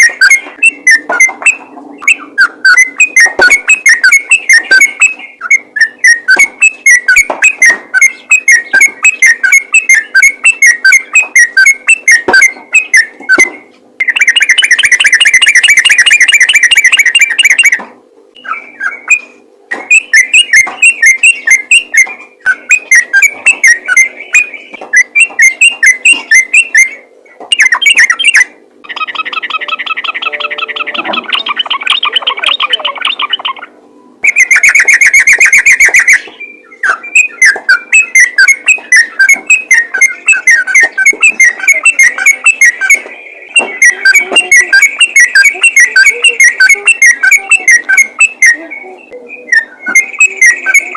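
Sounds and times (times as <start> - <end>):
bird chirping: 0.0 - 50.9
buzzy bird trill: 0.0 - 50.9
faint steady hum: 0.0 - 50.9.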